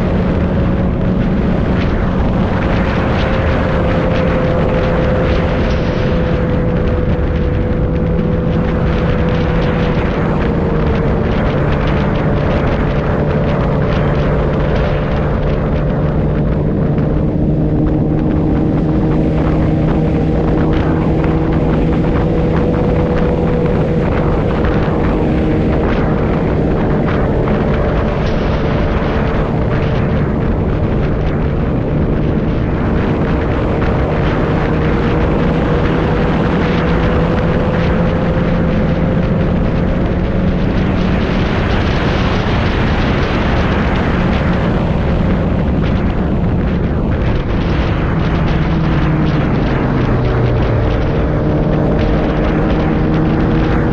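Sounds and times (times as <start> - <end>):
motorcycle engine cruising: 0.0 - 53.9
wind and road noise: 0.0 - 53.9.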